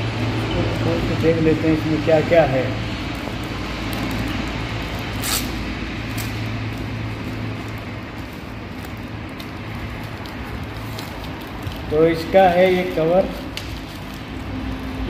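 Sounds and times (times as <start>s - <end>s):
paper wrapper crinkling: 2.9s - 15.0s.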